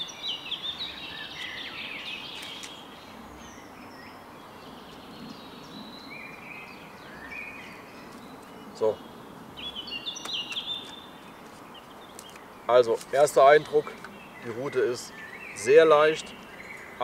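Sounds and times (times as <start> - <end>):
outdoor background hiss: 0.0 - 17.0
songbirds chirping and singing: 0.0 - 17.0.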